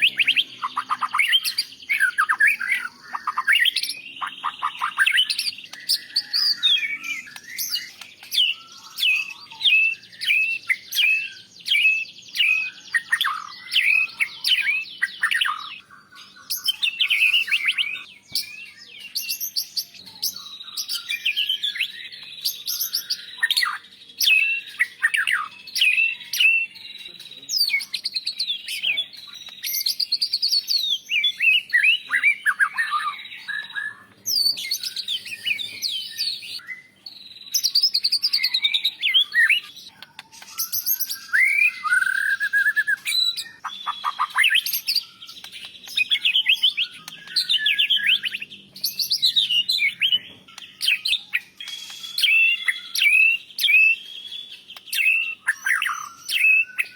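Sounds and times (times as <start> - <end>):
songbird whistling and chirping: 0.0 - 56.9.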